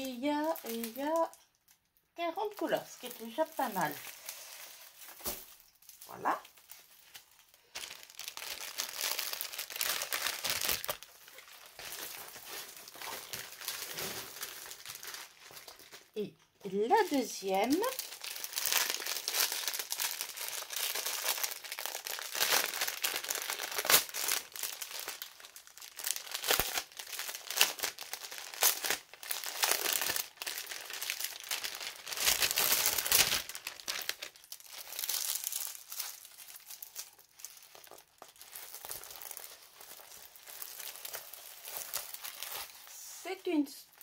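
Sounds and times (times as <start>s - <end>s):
plastic packaging crinkling: 0.0s - 44.0s.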